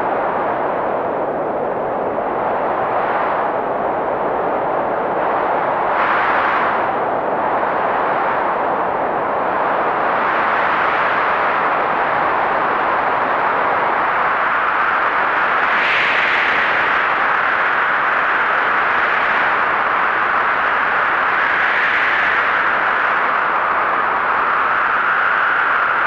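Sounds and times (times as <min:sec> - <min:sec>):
blizzard wind blowing: 0:00.0 - 0:26.0.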